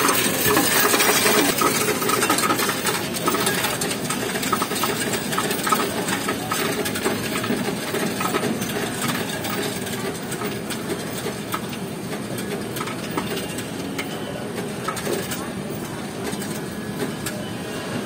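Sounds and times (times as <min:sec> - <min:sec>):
coins rattling through sorter: 0:00.0 - 0:17.4.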